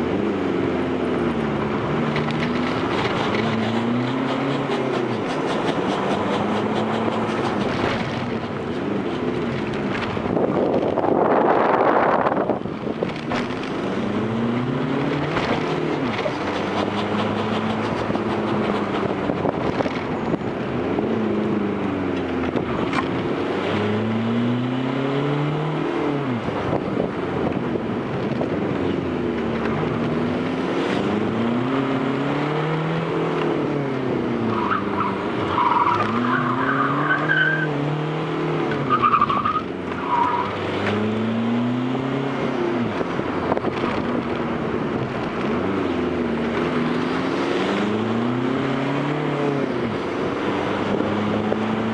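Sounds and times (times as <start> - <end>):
turbodiesel engine revving: 0.0 - 51.9.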